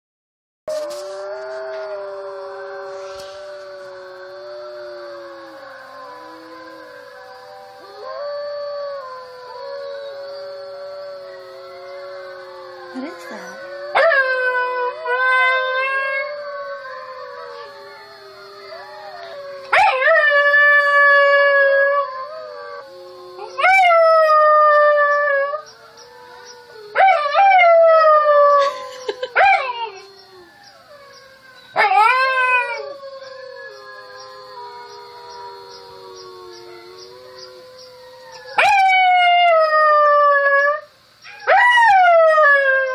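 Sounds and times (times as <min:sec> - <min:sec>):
puppy howling: 0:00.7 - 0:42.9
recorded wolf howls: 0:00.7 - 0:42.9.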